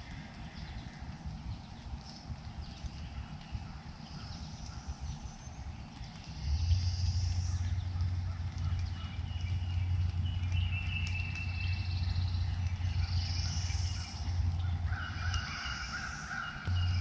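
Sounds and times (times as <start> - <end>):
songbirds twittering: 0.0 - 17.0
steady low hum: 0.2 - 17.0.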